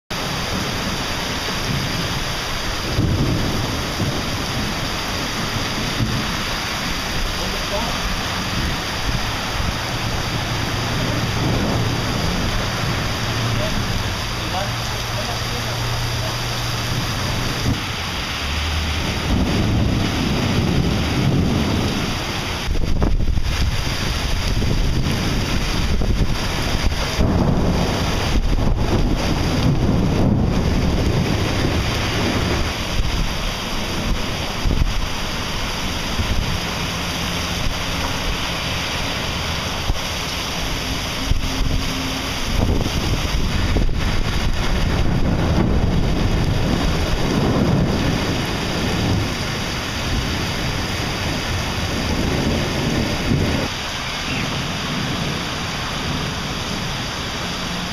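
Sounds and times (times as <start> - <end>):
heavy rain pouring: 0.1 - 57.9
wind buffeting the microphone: 0.2 - 57.4.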